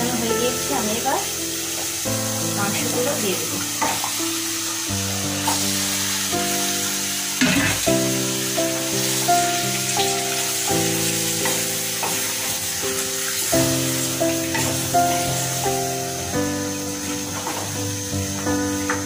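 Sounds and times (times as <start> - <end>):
instrumental background music: 0.0 - 19.0
meat sizzling in hot oil: 0.0 - 19.0.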